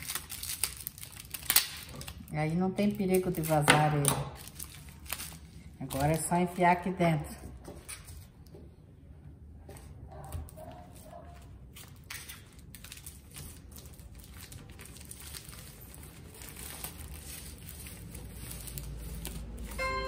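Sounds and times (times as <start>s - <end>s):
plastic crinkling: 0.0s - 6.9s, 10.8s - 20.0s.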